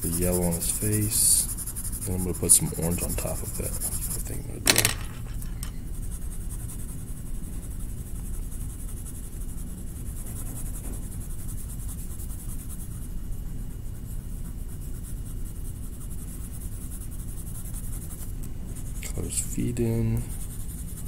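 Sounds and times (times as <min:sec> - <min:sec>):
colouring stick scratching paper: 0:00.0 - 0:04.4, 0:05.2 - 0:21.0.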